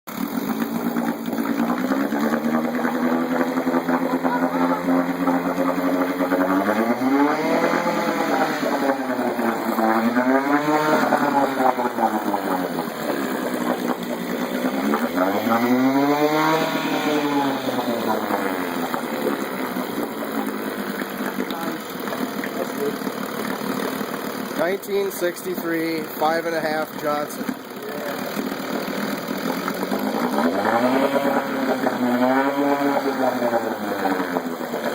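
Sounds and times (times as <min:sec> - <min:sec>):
outboard motor revving: 0:00.1 - 0:34.9.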